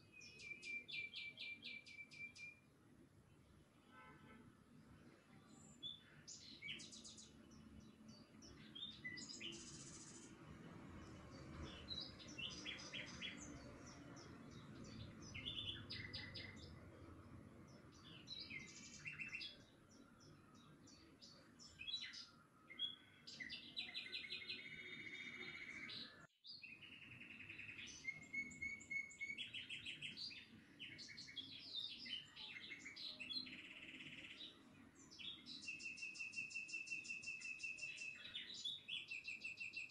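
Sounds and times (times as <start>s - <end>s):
small birds chirping and singing: 0.0s - 3.7s, 4.8s - 39.9s
faint background noise: 0.0s - 39.9s.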